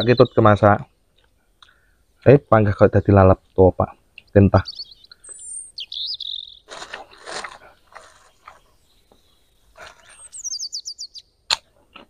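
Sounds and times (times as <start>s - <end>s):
songbird singing: 0.0s - 11.7s.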